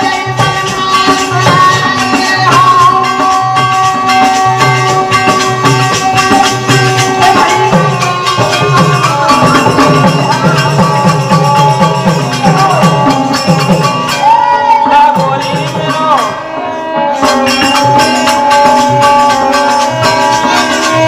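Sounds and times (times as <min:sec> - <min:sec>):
harmonium chords: 0:00.0 - 0:21.0
metal percussion: 0:00.0 - 0:21.0.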